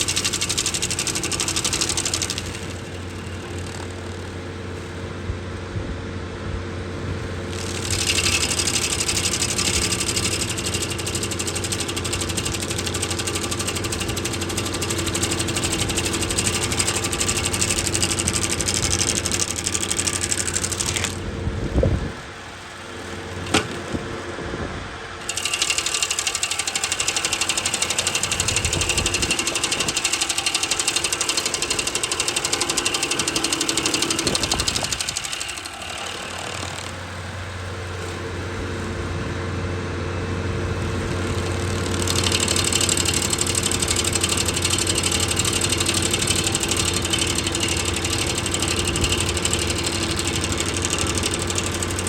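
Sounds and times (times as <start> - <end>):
stump grinder cutting wood: 0.0 - 5.2, 7.0 - 21.8, 22.7 - 24.3, 25.2 - 52.0
skid steer engine running: 0.0 - 52.0.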